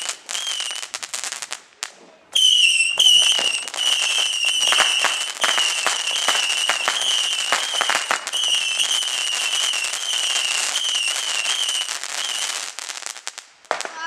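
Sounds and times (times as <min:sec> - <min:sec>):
high-pitched firework whistle: 0:00.0 - 0:01.0, 0:02.4 - 0:12.7, 0:13.7 - 0:14.0
sharp firework pops: 0:00.0 - 0:10.0, 0:10.7 - 0:14.0
firework crackling: 0:00.0 - 0:14.0.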